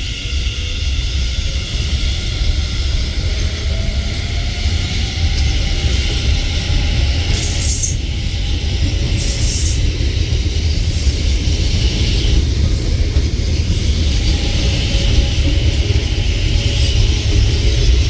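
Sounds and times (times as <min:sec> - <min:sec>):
electric train rumbling on track: 0:00.0 - 0:18.0.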